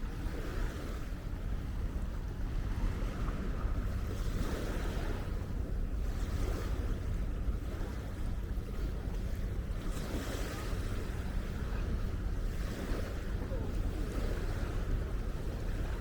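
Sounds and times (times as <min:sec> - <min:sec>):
waves washing onto sandy beach: 0:00.0 - 0:16.0
wind buffeting microphone: 0:00.0 - 0:16.0.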